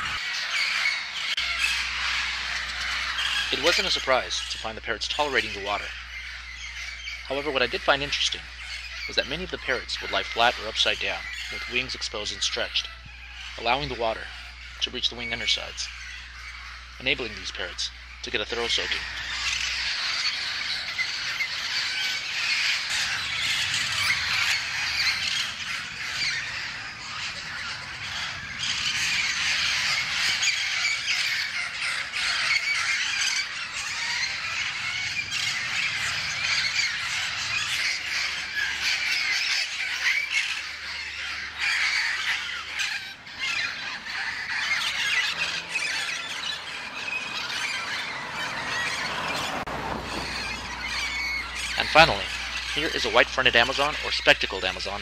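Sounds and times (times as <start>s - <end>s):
parrots squawking: 0.0s - 55.0s.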